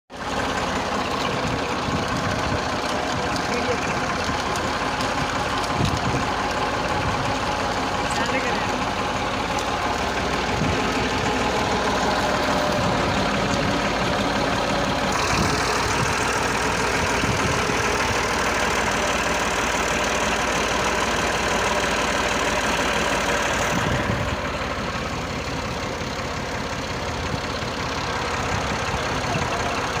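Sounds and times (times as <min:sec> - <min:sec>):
engine with mechanical clatter: 0:00.1 - 0:30.0.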